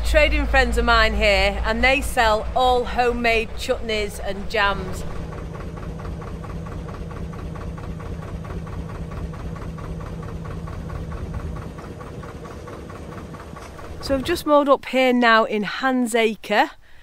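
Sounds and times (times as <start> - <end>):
boat engine running slowly: 0.0 - 14.7.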